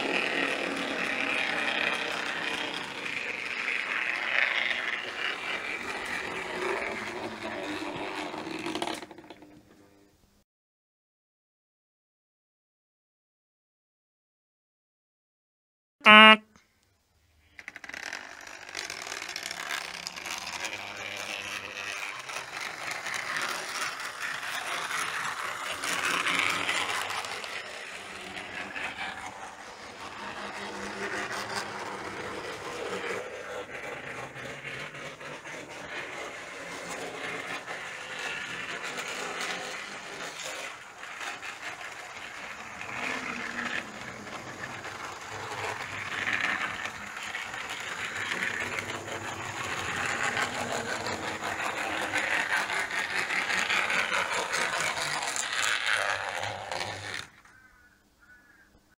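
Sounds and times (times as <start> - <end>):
model train running on rails: 0.0 - 9.5, 17.6 - 57.5.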